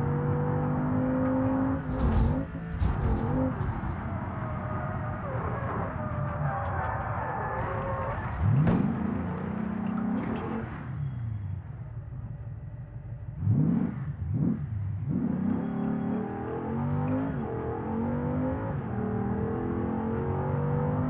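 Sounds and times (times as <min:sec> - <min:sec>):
car engine accelerating hard: 0:00.0 - 0:11.4, 0:13.3 - 0:21.0.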